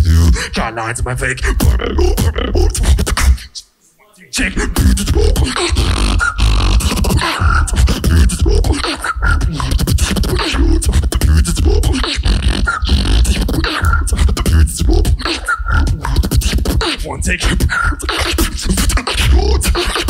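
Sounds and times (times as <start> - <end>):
beatbox rhythm: 0.0 - 3.7, 4.4 - 20.0
short pitched vocal sounds: 0.0 - 20.0.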